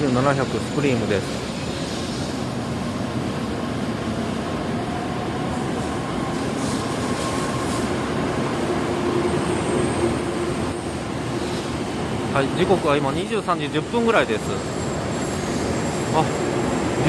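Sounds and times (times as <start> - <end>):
train running and wheel noise: 0.0 - 17.0.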